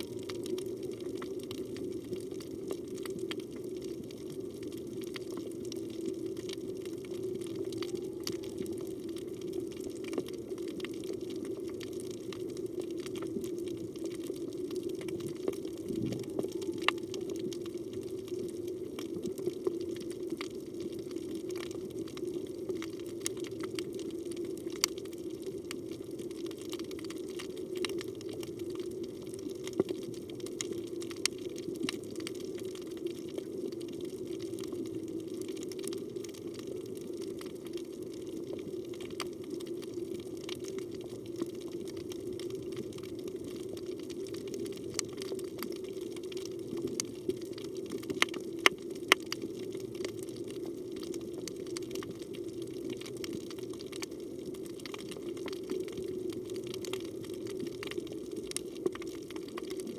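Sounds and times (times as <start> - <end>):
sharp clicks and crackles: 0.1 - 37.9, 38.5 - 59.9.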